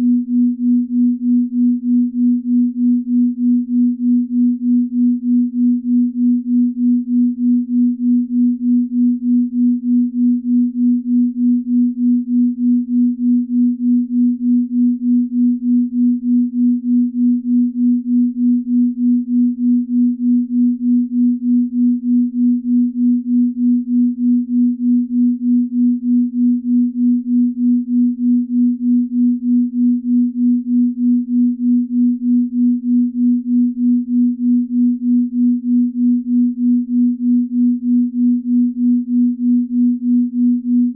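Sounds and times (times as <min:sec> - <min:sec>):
pulsing pure tone: 0:00.0 - 0:40.9.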